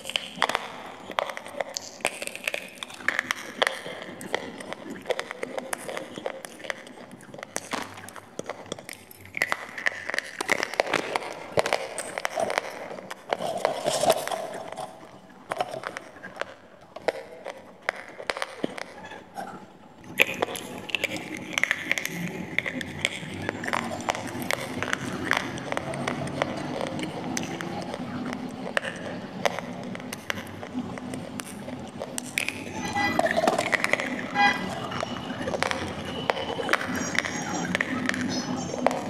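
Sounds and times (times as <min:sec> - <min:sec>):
crunching and chewing: 0:00.0 - 0:39.0
wet mouth sounds: 0:00.0 - 0:39.0.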